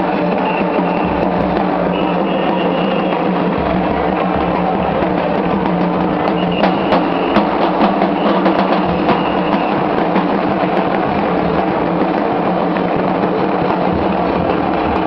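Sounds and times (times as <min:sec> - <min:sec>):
drums beating in crowd: 0:00.0 - 0:15.0.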